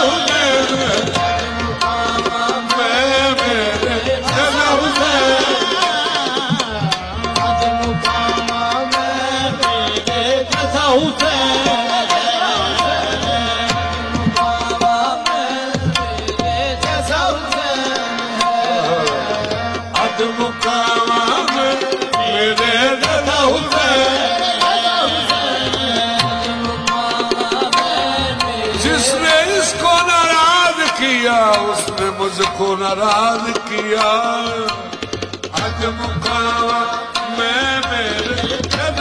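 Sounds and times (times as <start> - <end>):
tabla playing: 0.0 - 39.0.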